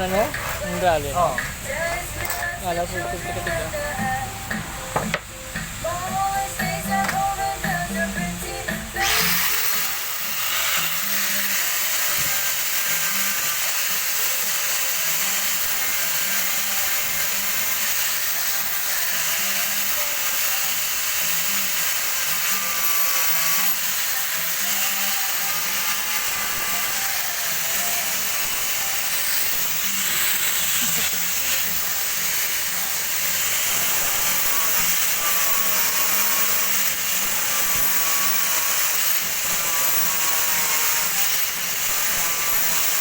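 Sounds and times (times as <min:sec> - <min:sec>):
electric power tool hissing: 0:00.0 - 0:43.0.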